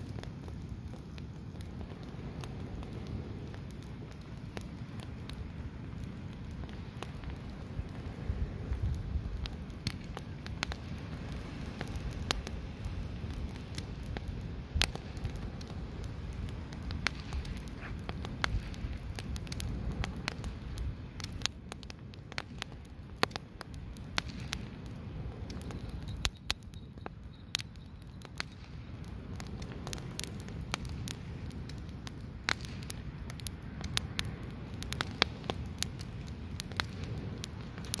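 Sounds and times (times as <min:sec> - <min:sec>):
fire low rumble: 0:00.0 - 0:38.0
firewood crackling and popping: 0:00.0 - 0:38.0.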